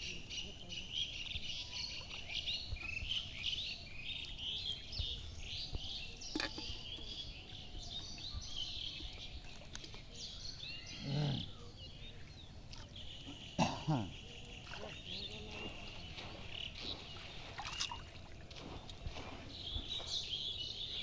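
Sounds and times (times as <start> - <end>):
birds chirping: 0.0 - 21.0
insects: 0.0 - 21.0.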